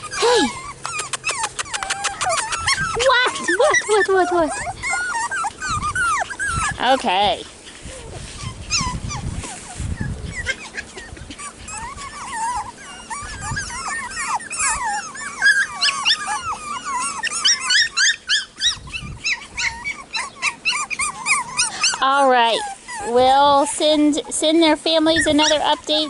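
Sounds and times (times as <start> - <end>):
puppies whining and yipping: 0.0 - 26.0.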